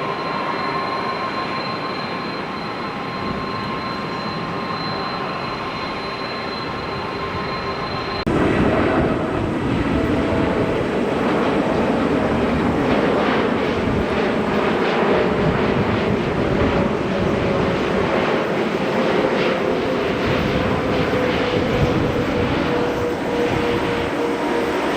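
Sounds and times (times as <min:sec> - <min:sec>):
jet engines whining: 0:00.0 - 0:24.9
rough jet engine noise: 0:00.0 - 0:24.9.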